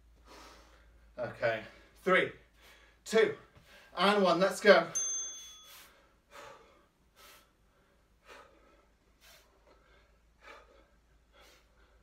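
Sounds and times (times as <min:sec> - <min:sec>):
man breathing heavily: 0:00.0 - 0:04.0, 0:05.6 - 0:12.0.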